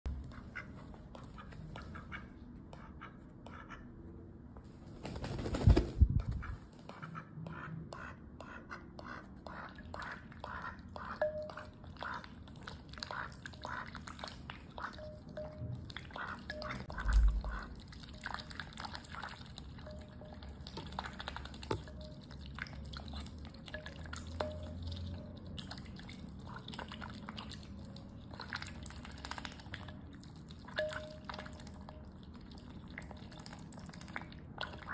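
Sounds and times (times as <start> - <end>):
duck dabbling in water bowl: 6.9 - 34.9.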